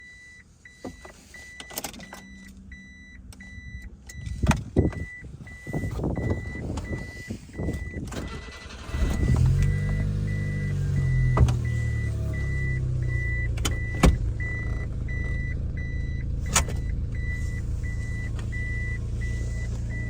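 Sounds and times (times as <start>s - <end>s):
van engine starting and idling: 0.2s - 20.0s.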